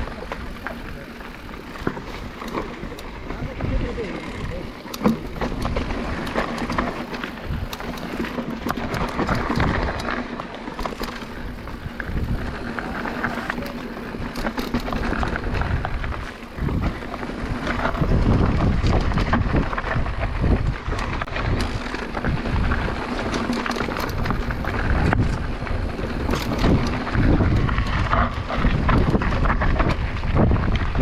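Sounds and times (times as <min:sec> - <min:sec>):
bike rattling and knocking: 0:00.0 - 0:31.0
tyres rumbling over rock: 0:00.0 - 0:31.0
wind on microphone: 0:02.0 - 0:10.0, 0:11.2 - 0:31.0.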